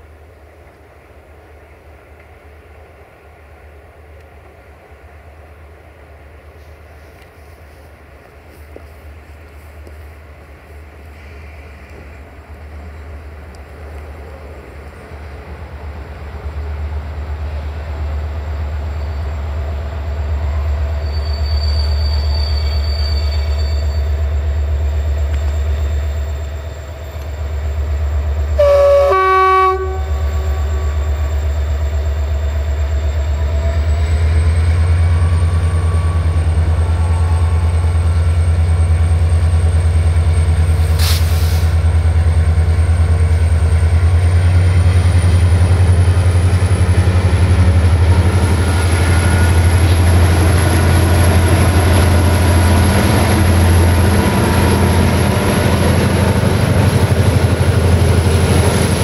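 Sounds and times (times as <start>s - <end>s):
train wheels rolling on rails: 0.0s - 28.7s, 29.8s - 59.0s
diesel locomotive engine drone: 0.0s - 59.0s.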